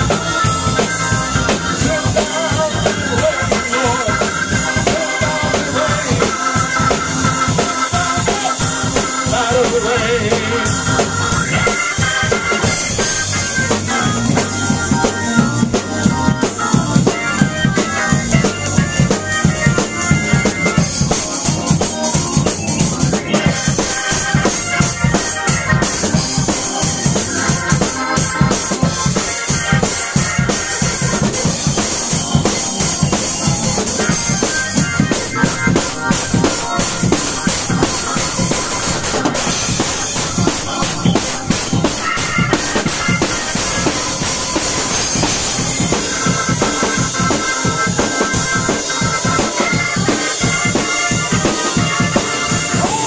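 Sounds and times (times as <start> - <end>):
drum kit beat: 0.0 - 53.0
organ playing: 0.0 - 53.0.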